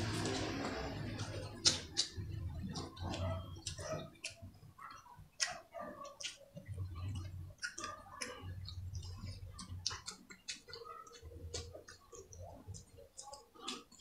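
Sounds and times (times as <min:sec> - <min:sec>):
chewing: 0:00.0 - 0:14.0
lip smacks: 0:01.2 - 0:14.0.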